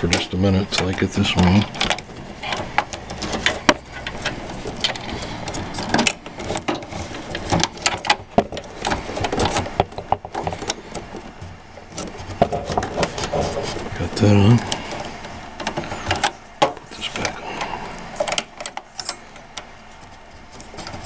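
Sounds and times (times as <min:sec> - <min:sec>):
cables rustling and scraping: 0:00.0 - 0:21.0.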